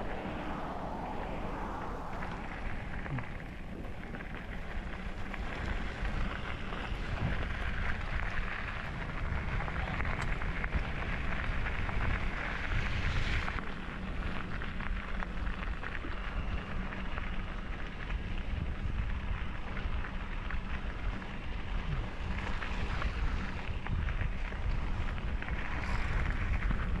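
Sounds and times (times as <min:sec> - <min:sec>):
bicycle tyres rolling: 0:00.0 - 0:27.0
wind buffeting microphone: 0:00.0 - 0:27.0.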